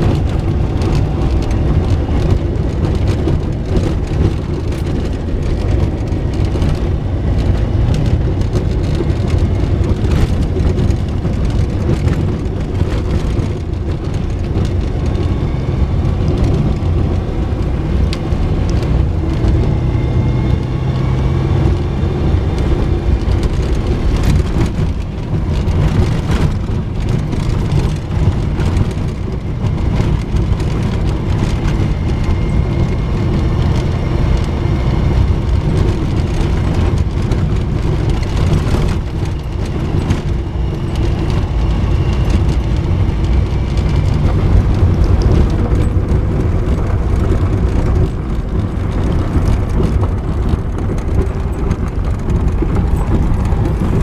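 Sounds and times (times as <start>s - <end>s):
knocks and rattles over bumps: 0.0s - 54.0s
vehicle engine and tyre rumble: 0.0s - 54.0s.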